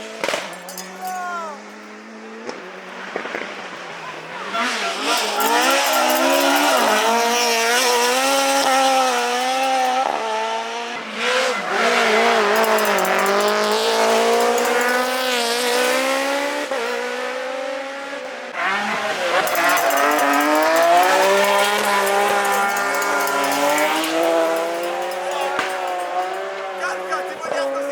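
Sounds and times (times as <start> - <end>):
rally car engine at high revs: 1.9 - 27.8.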